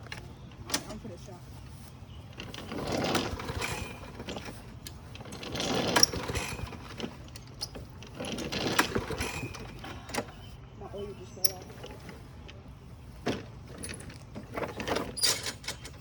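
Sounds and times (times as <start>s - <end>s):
lawn mower recoil starter pulls: 0.0s - 16.0s.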